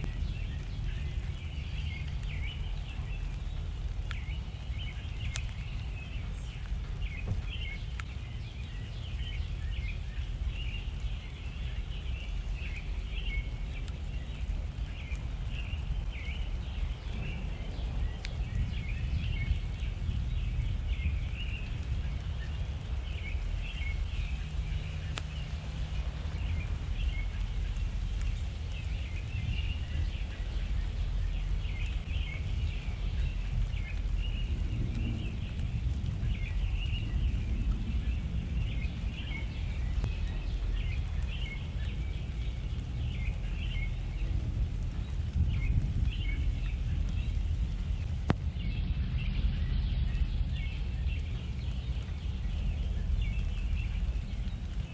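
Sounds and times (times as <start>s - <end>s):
small birds chirping: 0.0s - 54.9s
steady low rumble: 0.0s - 54.9s.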